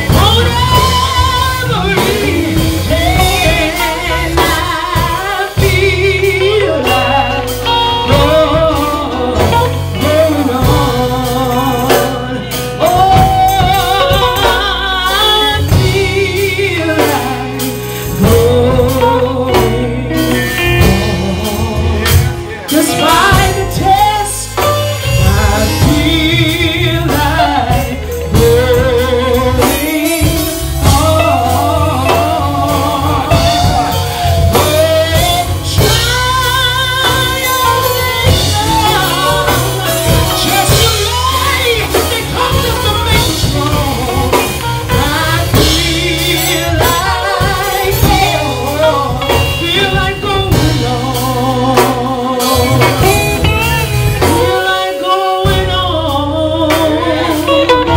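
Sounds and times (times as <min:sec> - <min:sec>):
bass playing a groove: 0:00.0 - 0:57.9
drum kit: 0:00.0 - 0:57.9.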